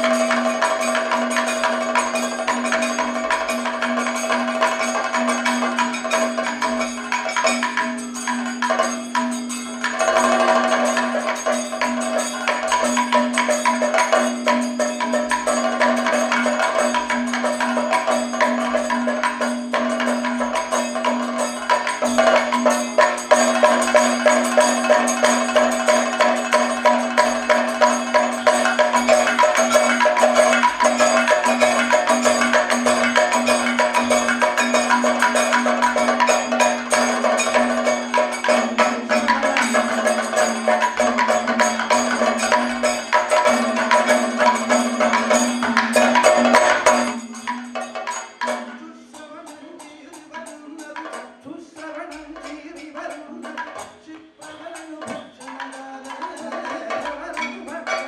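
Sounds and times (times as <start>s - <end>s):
drums playing fast rhythm: 0.0s - 58.0s.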